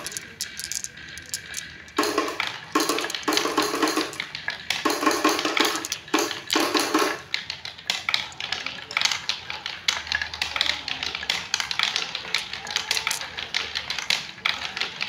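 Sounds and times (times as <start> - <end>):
marbles rolling on wooden ramps: 0.0 - 15.0.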